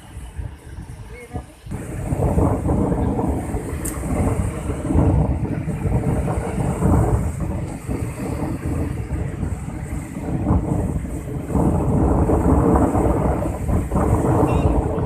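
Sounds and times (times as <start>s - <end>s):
sea surf at shore: 0.0s - 15.0s
wind buffeting microphone: 0.0s - 15.0s.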